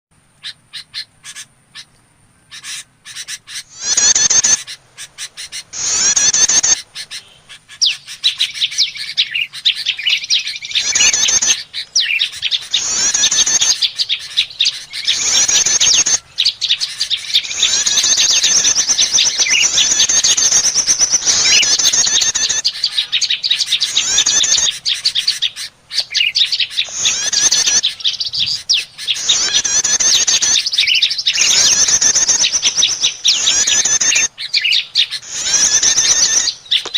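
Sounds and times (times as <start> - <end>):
bird scolding chatter calls: 0.4 - 36.9.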